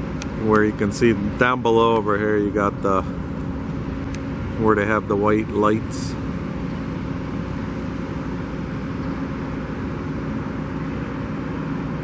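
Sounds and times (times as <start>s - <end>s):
distant traffic rumble: 0.0s - 12.0s
faint steady hum: 0.0s - 12.0s.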